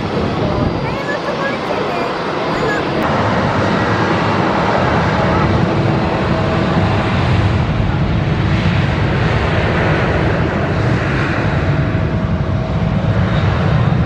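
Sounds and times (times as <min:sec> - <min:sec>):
jet engines rushing: 0:00.0 - 0:14.0
wind buffeting microphone: 0:00.0 - 0:14.0.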